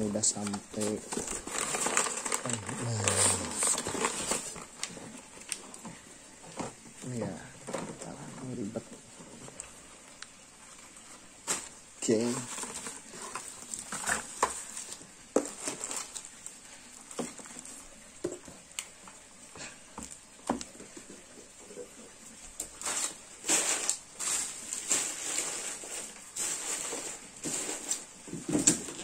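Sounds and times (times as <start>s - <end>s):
bubble-wrap crinkling and rustling: 0.0s - 29.0s.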